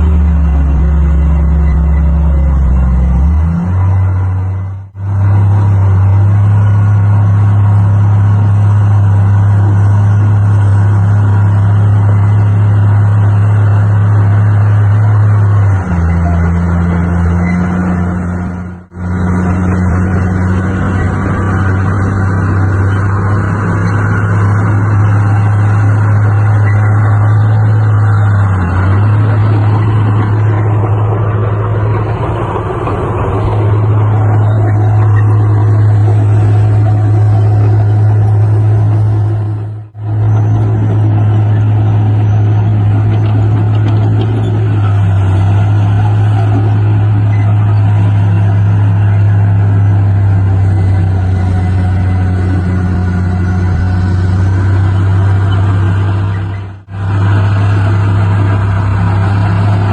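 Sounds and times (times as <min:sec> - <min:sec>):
heavy diesel engine humming: 0:00.0 - 0:59.9.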